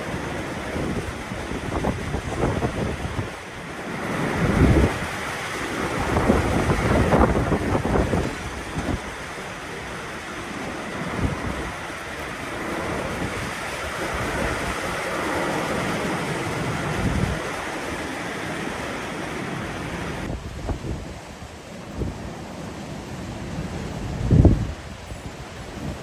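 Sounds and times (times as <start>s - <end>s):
storm wind gusting on microphone: 0.0s - 26.0s.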